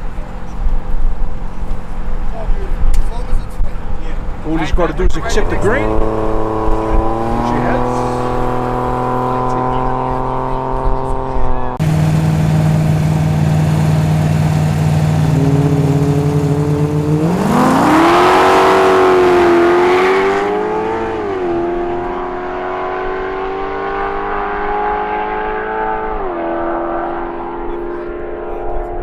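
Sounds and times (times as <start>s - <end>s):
race car engine revving: 4.9s - 29.0s.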